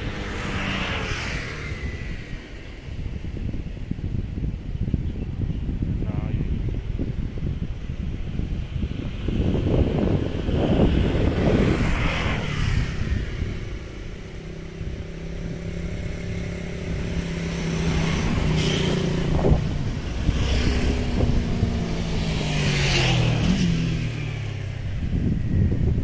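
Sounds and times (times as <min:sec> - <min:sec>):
wind gusting on microphone: 0:00.0 - 0:26.0.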